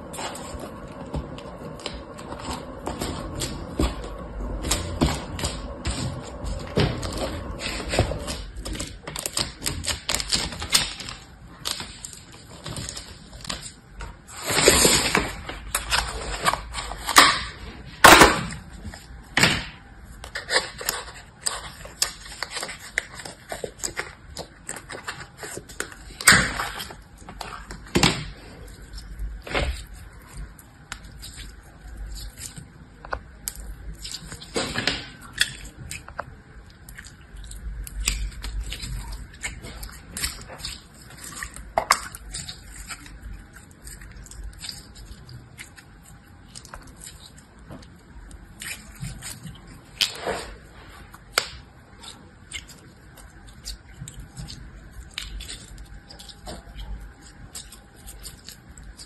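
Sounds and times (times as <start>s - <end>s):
hands squishing crunchy slime: 0.0s - 59.0s.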